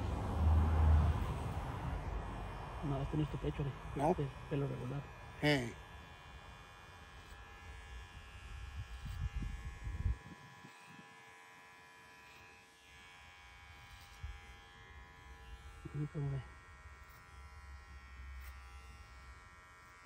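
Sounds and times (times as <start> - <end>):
hair clippers buzzing: 0.9 - 20.0.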